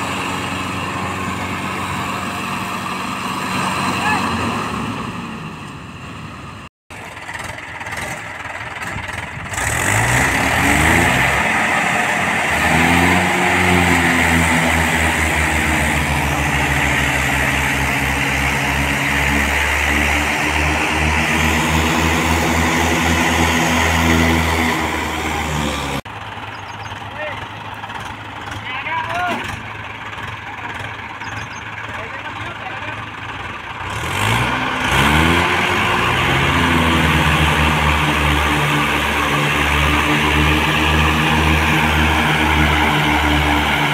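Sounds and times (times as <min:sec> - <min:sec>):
tractor diesel engine revving: 0:00.0 - 0:43.9.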